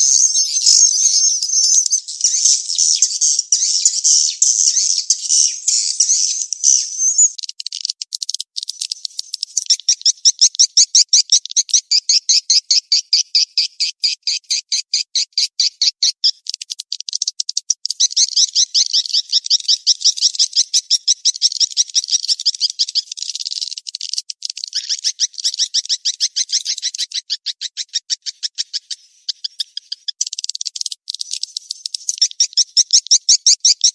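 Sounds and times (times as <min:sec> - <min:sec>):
swiftlets twittering chirps: 0:00.0 - 0:33.9.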